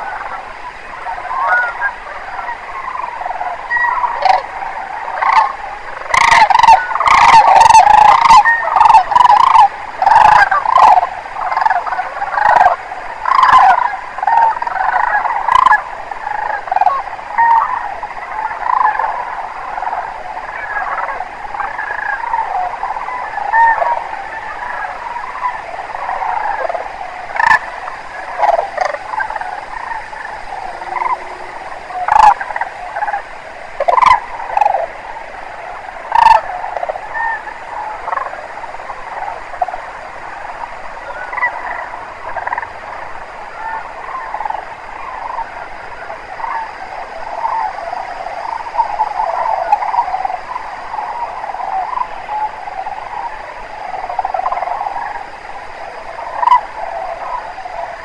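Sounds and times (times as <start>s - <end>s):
cranes calling: 0.0s - 58.0s.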